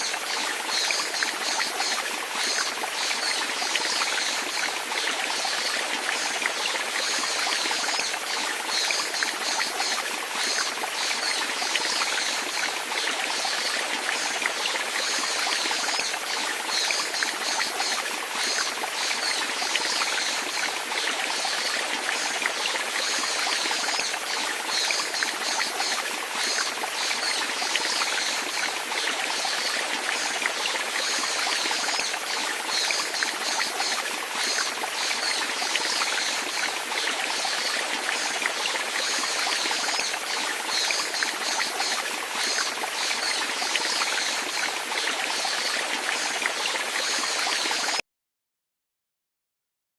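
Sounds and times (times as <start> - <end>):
stream trickling: 0.0 - 48.0.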